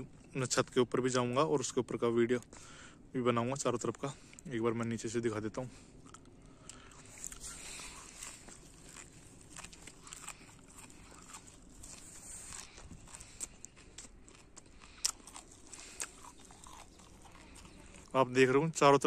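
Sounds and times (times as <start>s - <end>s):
light outdoor hiss: 0.0s - 19.0s
faint crunching and clicks: 2.2s - 19.0s.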